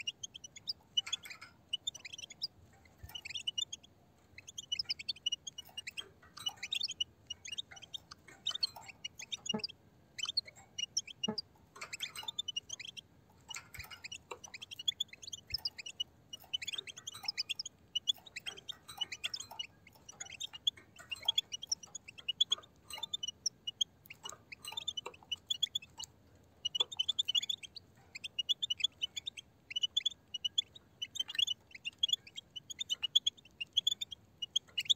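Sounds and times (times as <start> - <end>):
faint clicks: 0.0 - 34.9
goldfinches twittering: 0.0 - 34.9.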